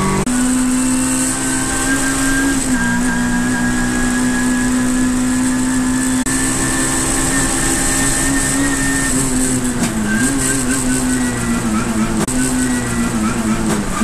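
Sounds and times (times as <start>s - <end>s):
race car engine at high revs: 0.0s - 14.0s
road and wind noise: 0.0s - 14.0s.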